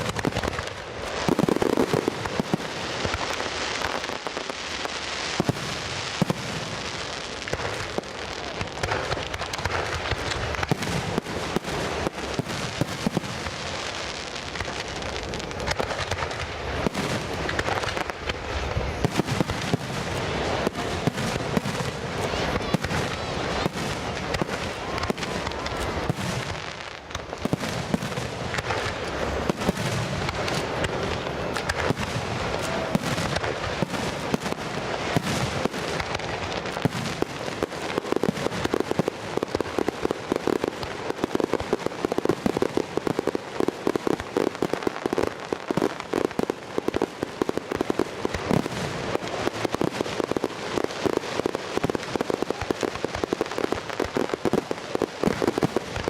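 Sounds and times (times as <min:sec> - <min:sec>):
fireworks popping and crackling: 0:00.0 - 0:56.0.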